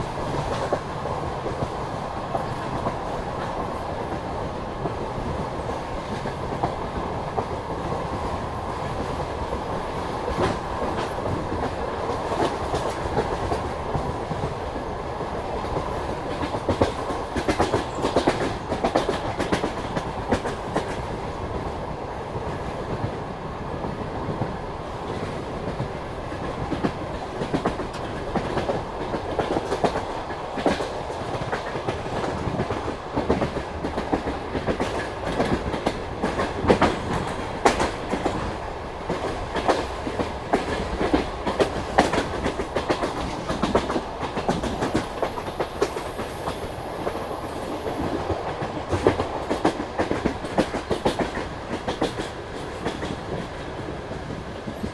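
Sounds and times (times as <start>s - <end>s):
train wheels clattering over rails: 0.0s - 54.9s.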